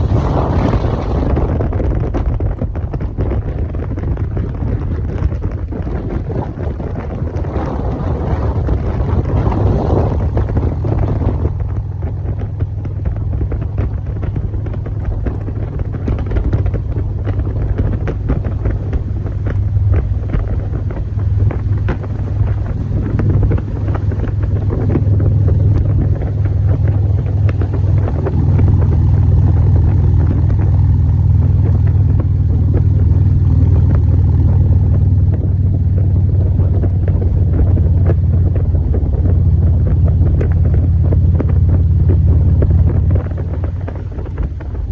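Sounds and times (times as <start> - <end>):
engine running steadily: 0.0 - 44.9
wind buffeting microphone: 0.0 - 44.9.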